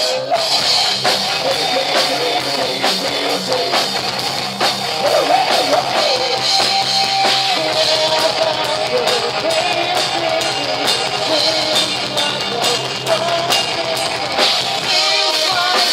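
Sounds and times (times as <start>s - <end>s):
drum kit and cymbals: 0.0s - 15.9s
electric guitar melody: 0.0s - 15.9s.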